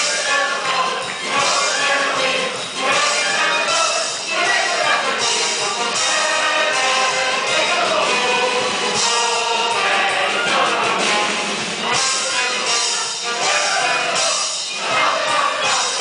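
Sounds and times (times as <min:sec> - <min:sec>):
instrumental music: 0:00.0 - 0:16.0
voices singing together: 0:00.0 - 0:16.0.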